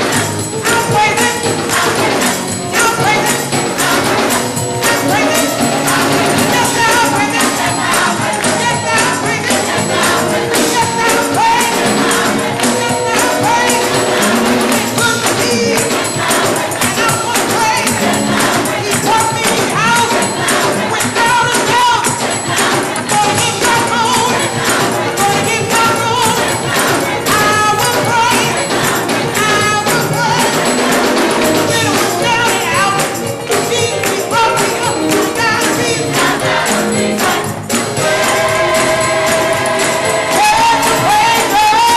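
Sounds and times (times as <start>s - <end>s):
tambourine rattling: 0.0s - 41.9s
youth choir singing with band: 0.0s - 41.9s.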